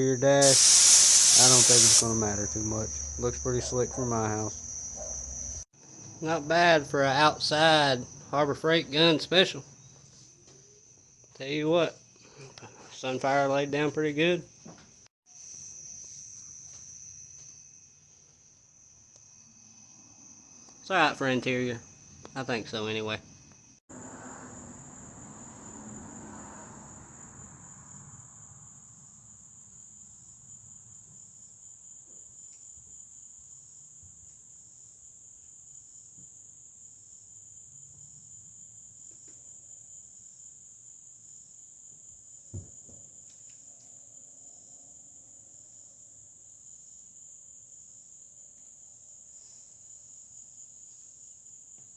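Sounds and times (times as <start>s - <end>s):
crickets trilling: 0.0s - 51.9s.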